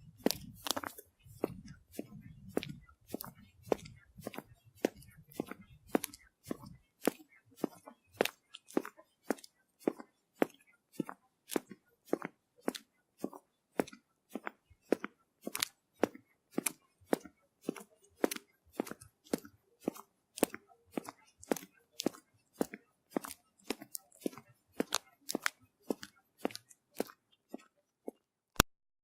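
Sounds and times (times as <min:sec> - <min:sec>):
footsteps with sharp taps: 0:00.0 - 0:28.7.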